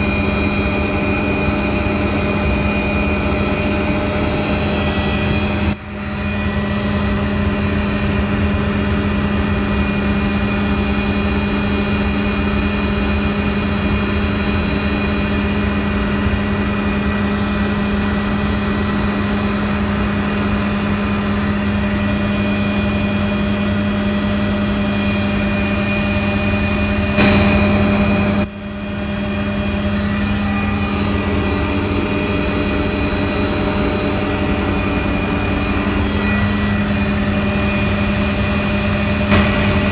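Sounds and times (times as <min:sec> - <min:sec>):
helicopter drone in flight: 0:00.0 - 0:39.9.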